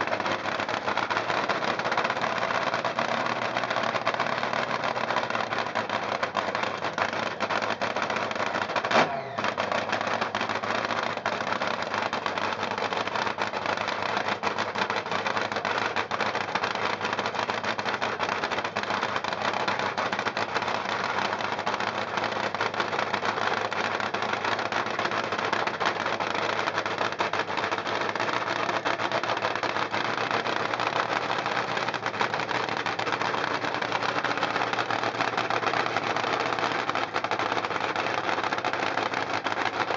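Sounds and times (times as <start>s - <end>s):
dragster engine running: 0.0s - 39.9s
sharp crack: 0.0s - 39.9s.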